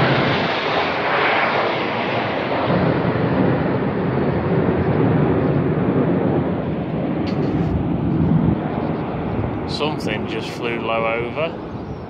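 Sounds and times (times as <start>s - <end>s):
military aircraft engine rumble: 0.0s - 12.0s.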